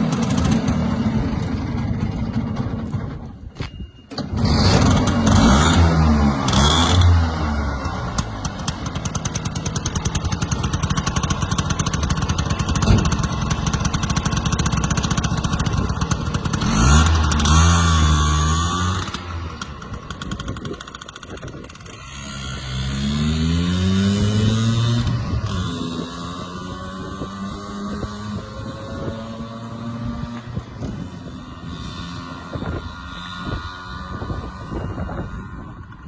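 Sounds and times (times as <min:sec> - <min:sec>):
small two-stroke engine revving: 0:00.0 - 0:03.3, 0:04.2 - 0:36.0.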